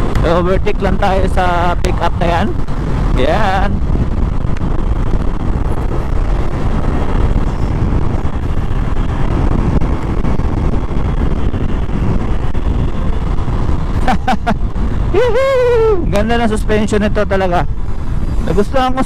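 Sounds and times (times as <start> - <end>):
scooter road noise: 0.0 - 19.0
wind rumble on microphone: 0.0 - 19.0.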